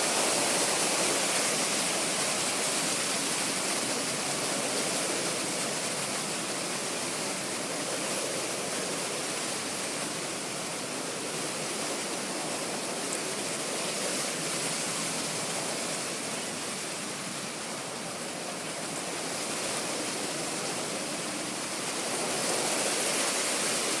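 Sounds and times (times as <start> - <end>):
wind rustling leaves: 0.0 - 24.0.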